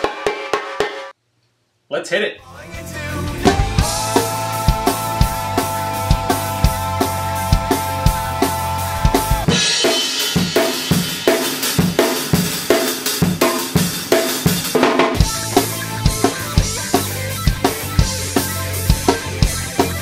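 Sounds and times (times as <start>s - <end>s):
band backing track: 2.5s - 20.0s
drum kit playing a groove: 2.5s - 20.0s.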